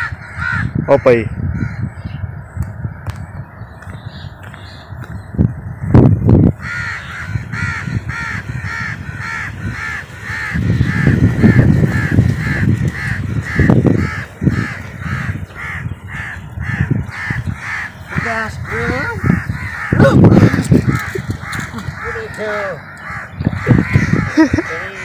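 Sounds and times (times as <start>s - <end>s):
bird giving harsh caws: 0.0s - 2.1s, 6.5s - 25.0s.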